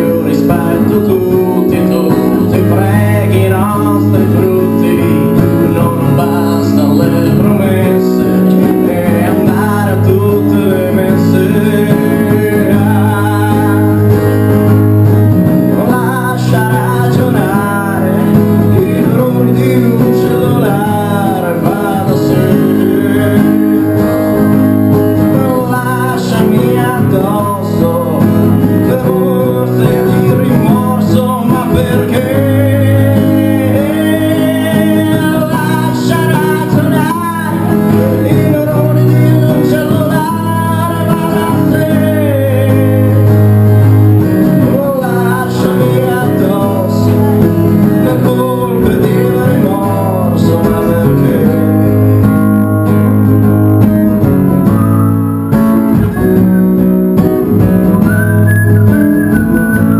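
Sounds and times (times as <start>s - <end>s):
person singing: 0.0s - 52.2s
acoustic guitar: 0.0s - 59.9s.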